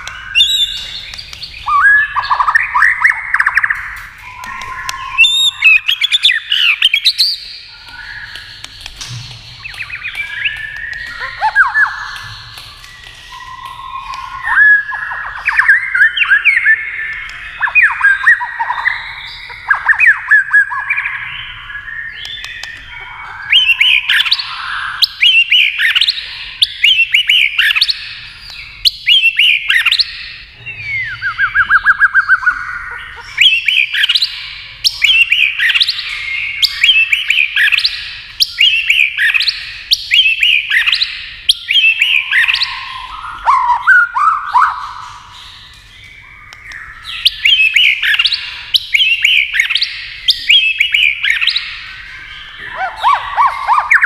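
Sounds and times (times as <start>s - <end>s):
bird singing whistles: 0.0s - 54.0s
bird trill: 0.0s - 54.0s.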